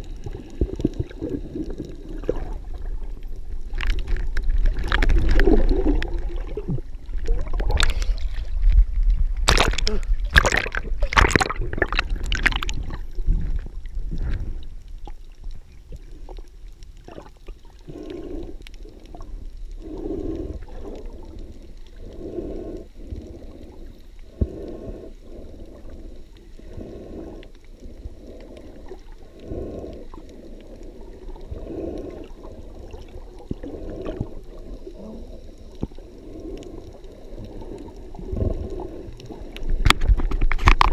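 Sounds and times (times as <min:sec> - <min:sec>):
water splashing and sloshing: 0:00.0 - 0:40.9.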